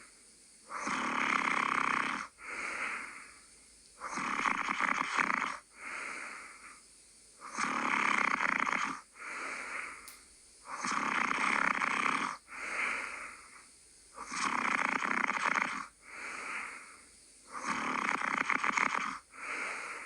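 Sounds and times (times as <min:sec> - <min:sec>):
person snoring: 0:00.7 - 0:03.3, 0:04.0 - 0:06.8, 0:07.4 - 0:10.0, 0:10.7 - 0:13.6, 0:14.2 - 0:20.0.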